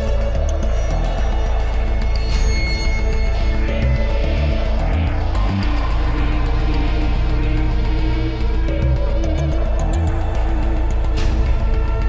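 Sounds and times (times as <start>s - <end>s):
soundtrack music with low notes: 0.0s - 12.0s.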